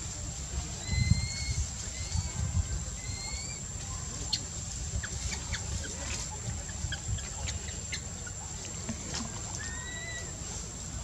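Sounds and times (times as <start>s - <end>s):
wind on microphone: 0.0s - 9.8s.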